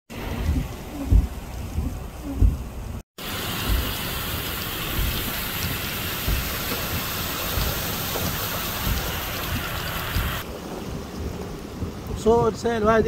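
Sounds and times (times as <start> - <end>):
low thumps: 0.1 - 3.0, 3.6 - 4.1, 4.8 - 13.0
heavy rain: 0.1 - 13.0
running floodwater: 0.1 - 13.0.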